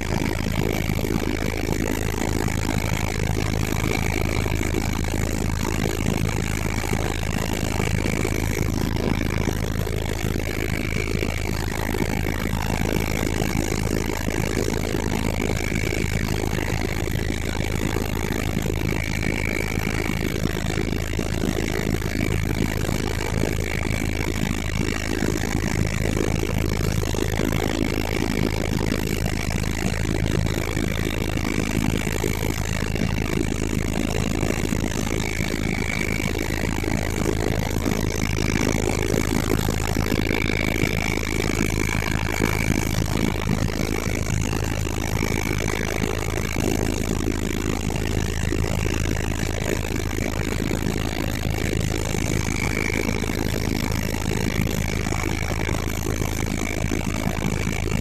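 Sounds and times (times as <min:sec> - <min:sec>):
helicopter engine and rotor: 0:00.0 - 0:58.0
high whine: 0:00.0 - 0:58.0.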